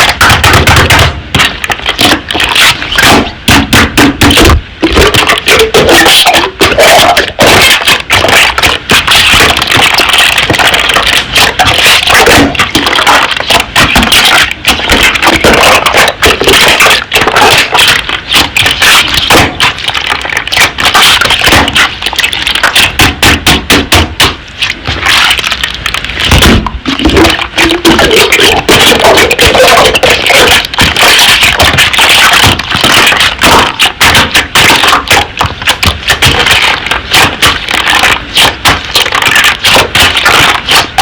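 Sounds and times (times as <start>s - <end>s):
slime crackling and popping: 0.0s - 41.0s.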